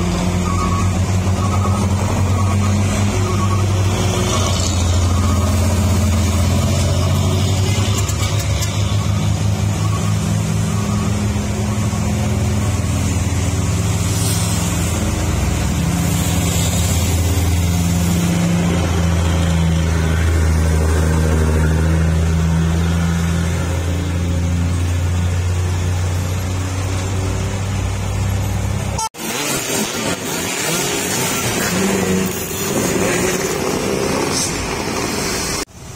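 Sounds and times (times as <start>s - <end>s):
noisy different sound: 0.0s - 35.9s
truck engine drone: 0.0s - 35.9s.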